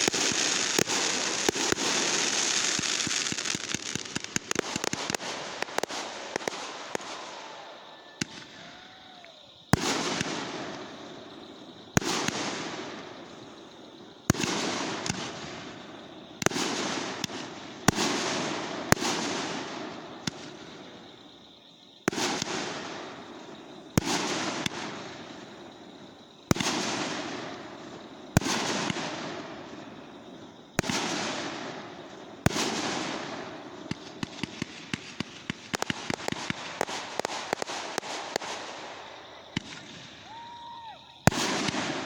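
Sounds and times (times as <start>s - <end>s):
fireworks bangs: 0.0s - 21.4s, 22.0s - 42.0s
rapid small firework cracks: 0.0s - 21.4s, 22.0s - 42.0s.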